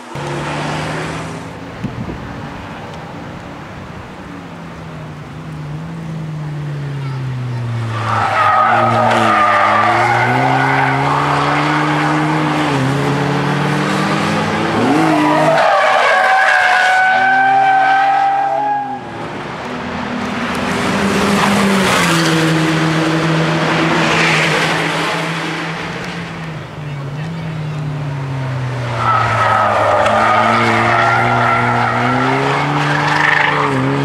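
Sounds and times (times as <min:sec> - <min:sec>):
car engine at full throttle: 0:00.0 - 0:34.0.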